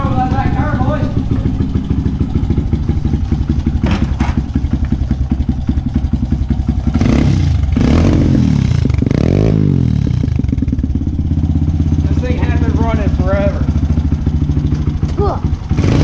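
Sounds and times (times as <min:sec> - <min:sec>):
dirt bike engine idling and revving: 0:00.0 - 0:16.0.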